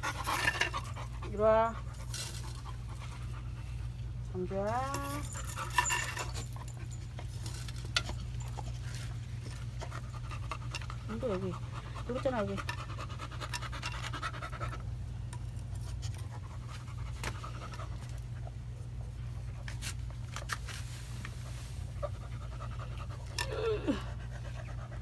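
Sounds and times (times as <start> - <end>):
dog panting: 0.0 - 20.2, 21.4 - 25.0
steady low hum: 0.0 - 25.0.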